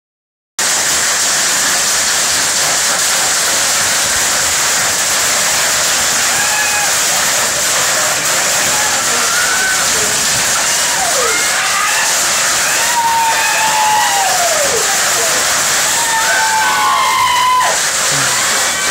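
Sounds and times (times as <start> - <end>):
heavy rain pouring: 0.6 - 18.9.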